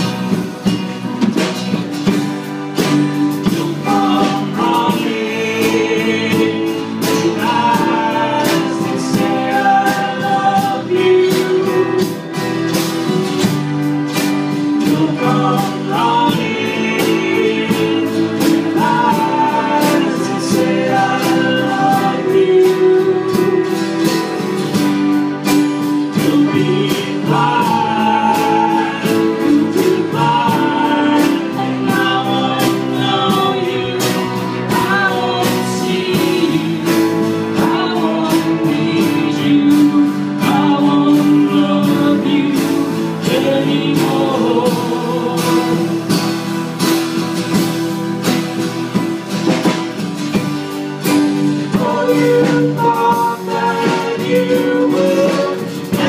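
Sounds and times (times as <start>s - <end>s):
group of voices singing: 0.0s - 56.0s
keyboard: 0.0s - 56.0s
strummed acoustic guitars: 0.0s - 56.0s.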